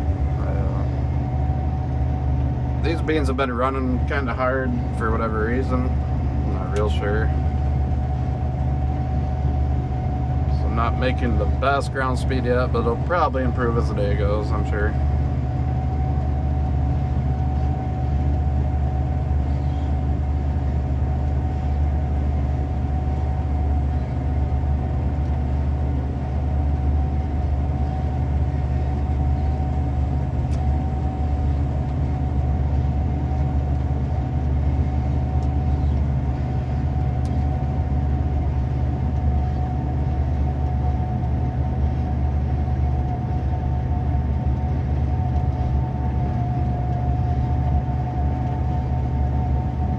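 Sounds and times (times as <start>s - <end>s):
combine harvester drone: 0.0s - 49.9s
high whine: 0.0s - 49.9s.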